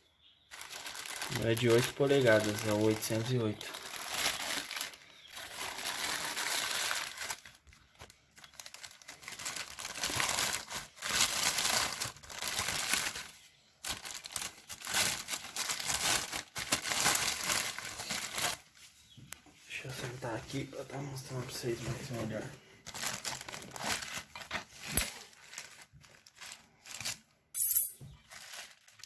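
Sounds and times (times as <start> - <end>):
packaging crinkling and rustling: 0.5 - 18.8, 21.2 - 27.3, 28.1 - 29.0.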